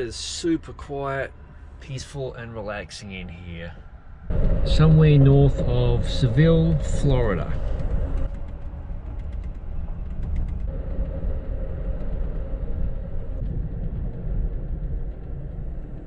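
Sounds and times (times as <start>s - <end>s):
faint hum: 0.0s - 16.0s
train car rumbling: 0.0s - 16.0s.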